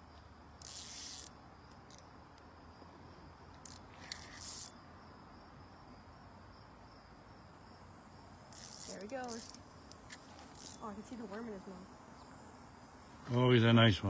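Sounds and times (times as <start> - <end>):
high insect trill: 0.0 - 14.0.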